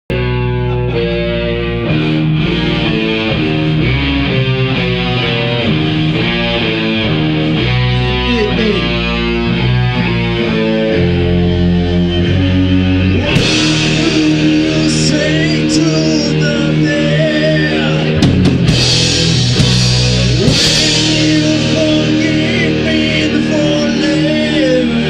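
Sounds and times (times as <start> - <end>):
heavy metal electric guitar: 0.1 - 25.0
low bass line: 0.1 - 25.0.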